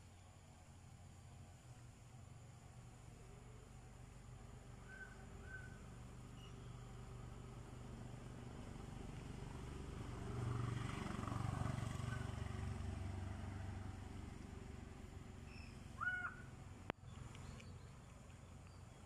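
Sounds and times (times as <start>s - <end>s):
low motor hum: 0.0s - 19.0s.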